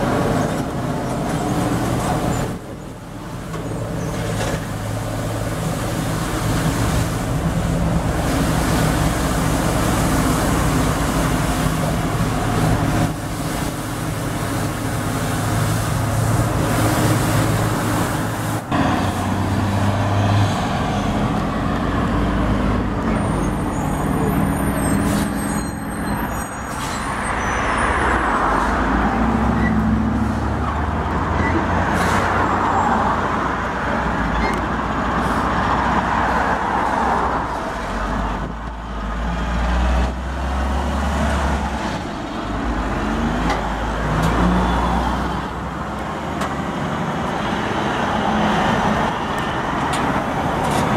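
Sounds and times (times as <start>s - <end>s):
heavy diesel trucks driving past: 0.0s - 50.9s.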